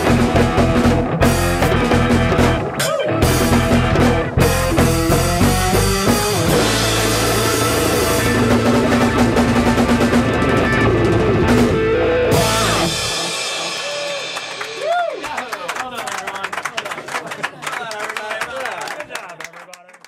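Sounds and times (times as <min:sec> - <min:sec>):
live rock band playing: 0:00.0 - 0:16.7.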